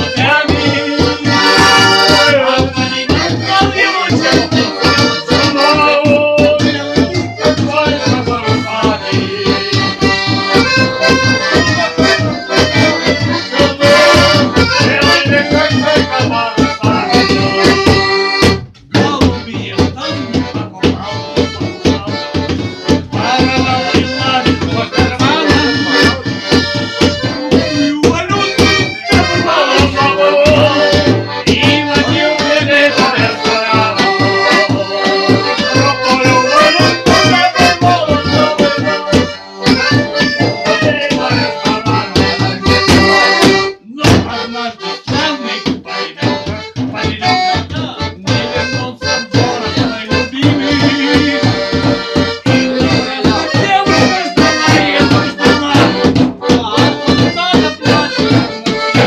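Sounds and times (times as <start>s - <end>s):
accordion playing folk tune: 0.0s - 59.0s.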